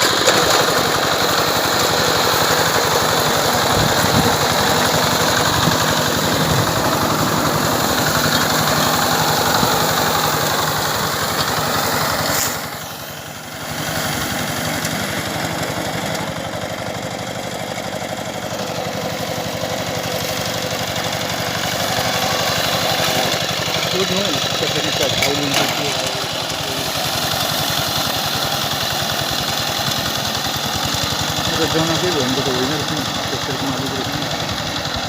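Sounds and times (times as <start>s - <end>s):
harvesting machine engine running: 0.0s - 35.0s.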